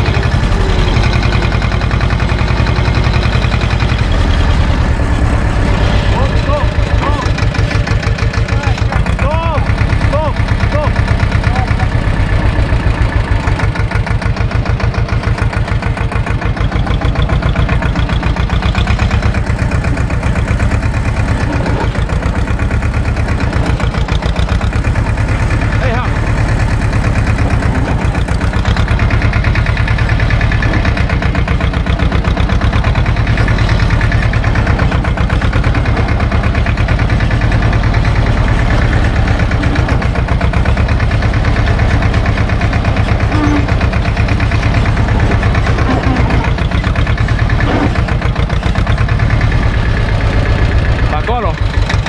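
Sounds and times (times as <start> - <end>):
tractor diesel engine chugging: 0.0 - 52.0.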